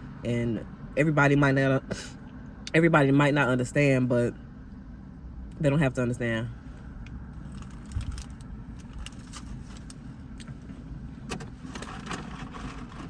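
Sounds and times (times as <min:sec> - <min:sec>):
car interior hum: 0:00.0 - 0:13.0.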